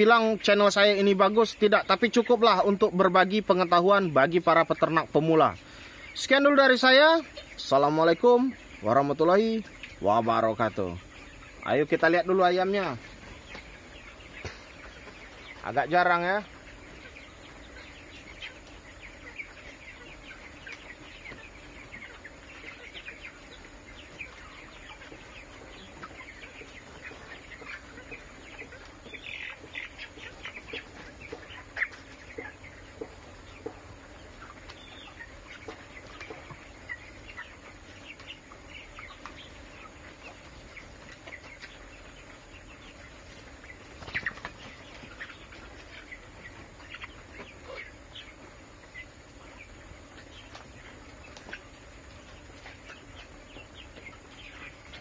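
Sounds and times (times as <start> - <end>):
chickens peeping and clucking: 0.0 - 55.0.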